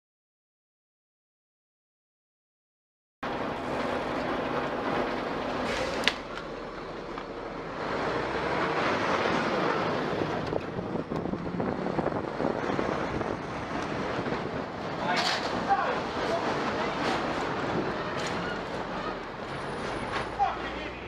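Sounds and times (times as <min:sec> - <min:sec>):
road traffic hum: 0:03.2 - 0:21.0.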